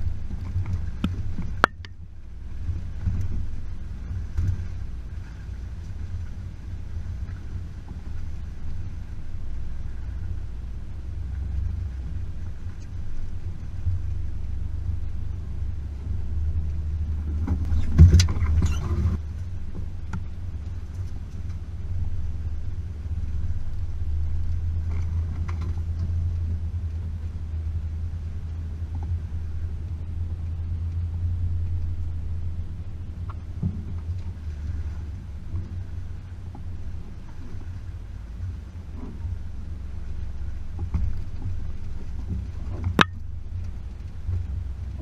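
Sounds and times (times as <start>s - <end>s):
car engine rumbling: 0.0s - 45.0s.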